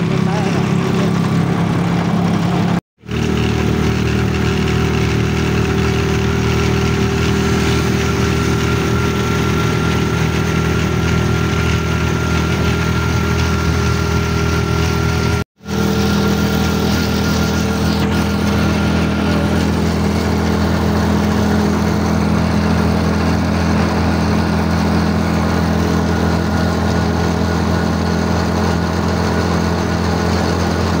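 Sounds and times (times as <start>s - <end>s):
rickshaw engine running: 0.0s - 31.0s
road noise: 0.0s - 31.0s.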